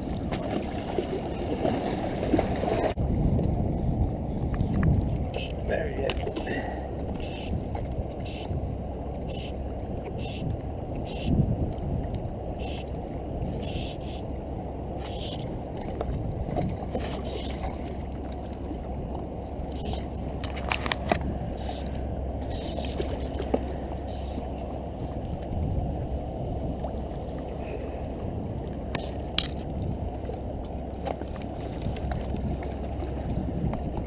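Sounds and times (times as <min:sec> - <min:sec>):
water sloshing against rocks: 0:00.0 - 0:03.6, 0:04.4 - 0:34.0
wind rumbling on microphone: 0:00.0 - 0:34.0.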